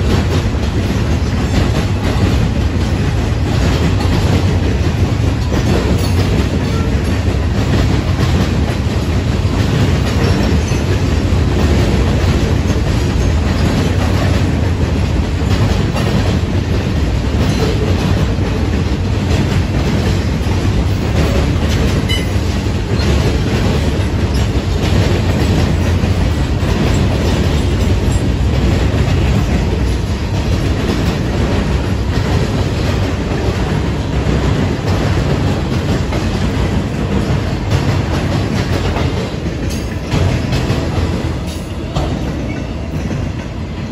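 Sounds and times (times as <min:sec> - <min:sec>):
wheels clicking over rail joints: 0:00.0 - 0:43.6
freight train rolling past: 0:00.0 - 0:43.9.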